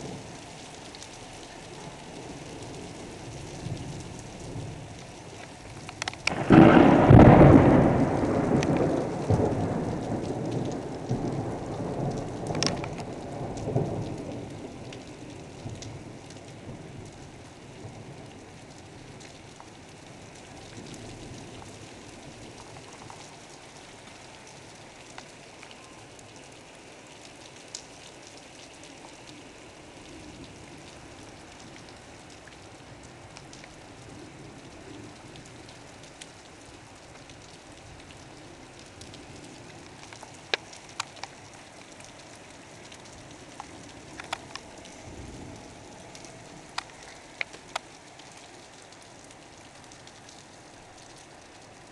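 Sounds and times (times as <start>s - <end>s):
heavy rain on a rooftop: 0.0s - 51.9s.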